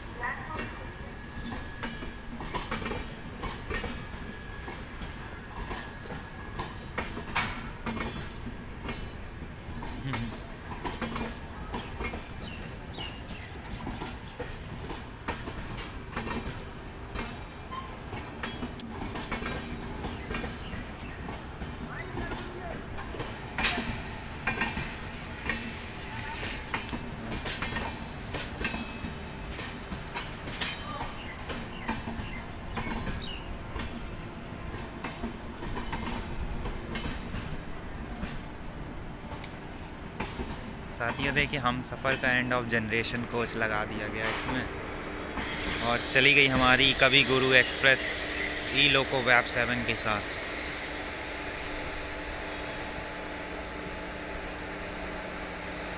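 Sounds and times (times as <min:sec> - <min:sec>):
low train rumble: 0:00.0 - 0:55.9
train wheels clattering over rail joints: 0:01.4 - 0:50.6.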